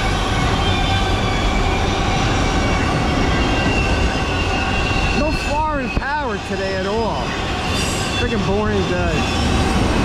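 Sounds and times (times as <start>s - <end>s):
freight train wheels rumbling: 0.0s - 10.0s
high wheel squeal: 0.0s - 10.0s.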